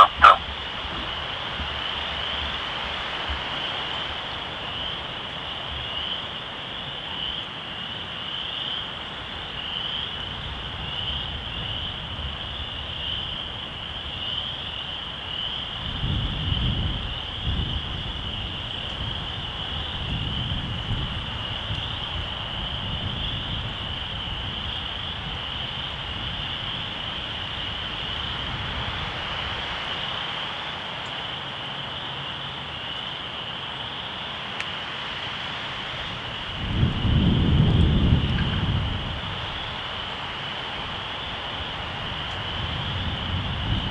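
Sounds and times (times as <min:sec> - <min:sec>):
frogs trilling: 0:00.0 - 0:43.9
wind gusting on microphone: 0:00.0 - 0:43.9.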